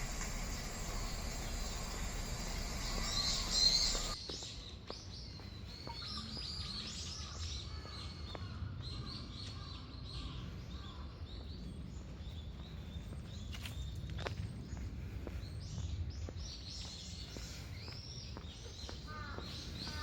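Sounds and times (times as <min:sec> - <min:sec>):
songbirds chirping and twittering: 0:00.0 - 0:20.0.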